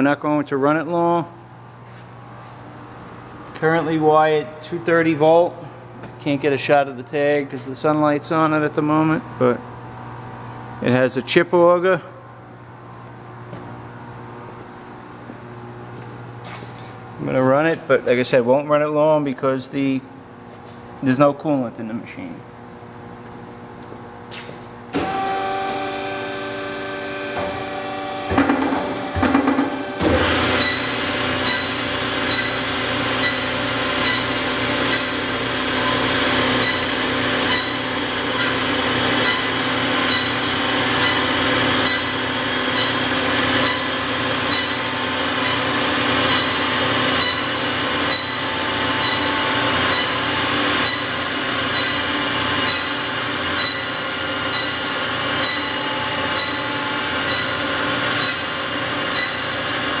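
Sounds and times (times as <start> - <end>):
bandsaw machine hum: 0.8 - 14.5, 22.8 - 60.0.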